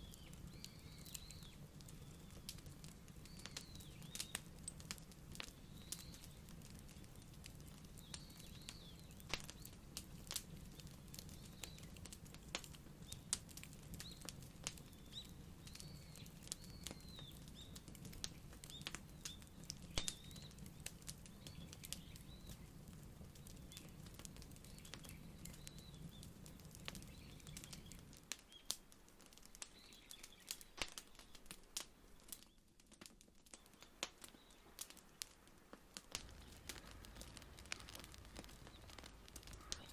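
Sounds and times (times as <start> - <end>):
fire pops and snaps: 0.0 - 39.9
wood fire crackling: 0.0 - 39.9.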